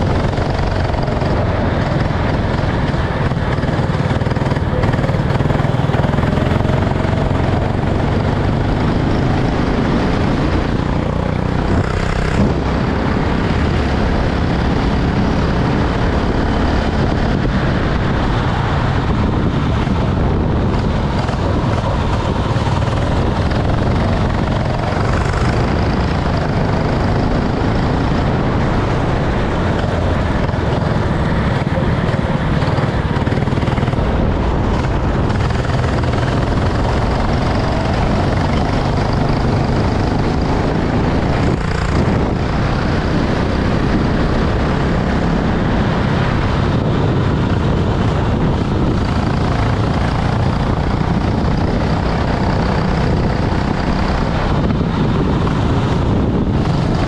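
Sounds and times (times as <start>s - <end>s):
kart engine running: 0.0s - 57.0s.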